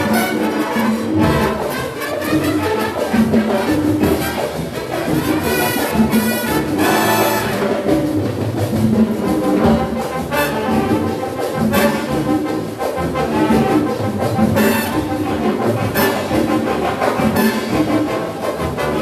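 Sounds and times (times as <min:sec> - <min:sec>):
latin big band music: 0:00.0 - 0:19.0.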